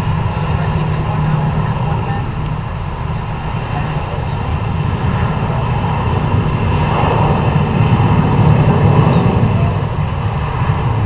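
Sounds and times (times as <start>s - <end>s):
jet airliner engines rumbling: 0.0s - 11.0s.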